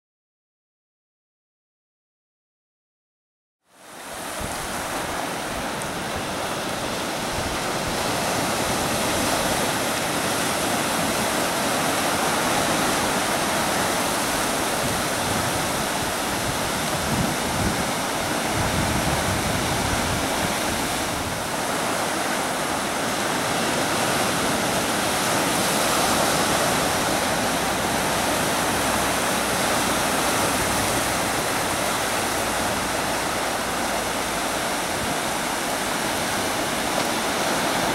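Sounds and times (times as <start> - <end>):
waves washing over rocky shore: 3.9 - 37.9.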